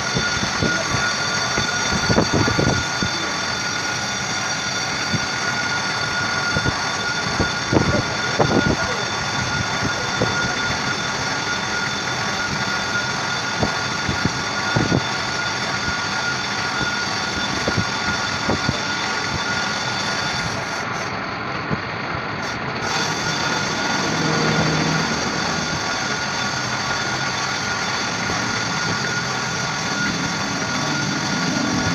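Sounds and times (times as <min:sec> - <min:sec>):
steady mechanical running noise: 0:00.0 - 0:31.9.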